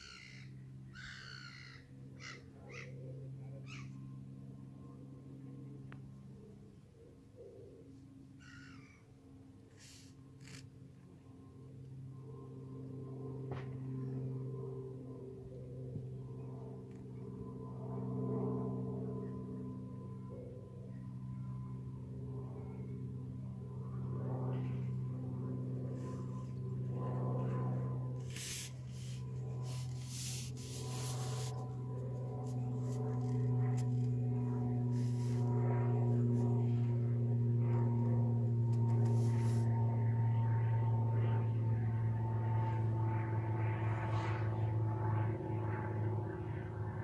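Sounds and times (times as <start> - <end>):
low mechanical drone: 0.0 - 47.0.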